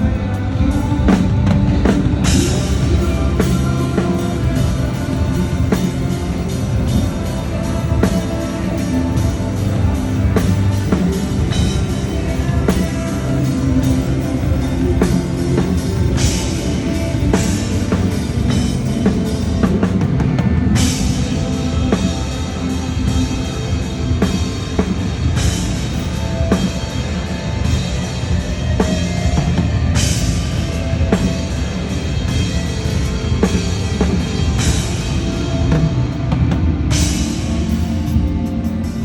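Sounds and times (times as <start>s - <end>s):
live rock band: 0.0s - 39.0s.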